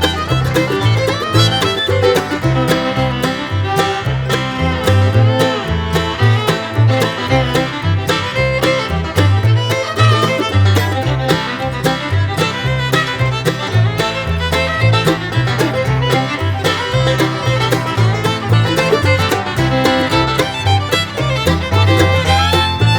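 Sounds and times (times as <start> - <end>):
banjo: 0.0 - 22.9
bass line: 0.0 - 22.9
fiddle: 0.0 - 22.9
steady beat: 0.0 - 22.9.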